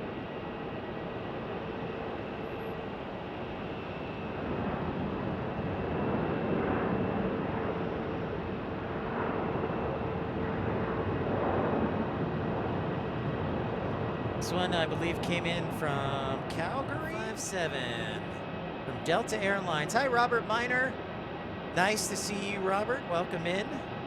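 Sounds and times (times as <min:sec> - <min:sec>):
jet engines of passing airliner: 0:00.0 - 0:24.0.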